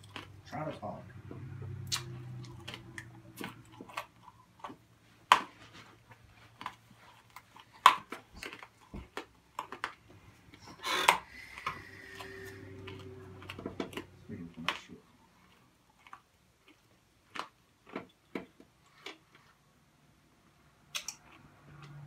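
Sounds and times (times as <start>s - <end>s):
chewing hard candy: 0.0s - 1.0s, 1.7s - 19.6s.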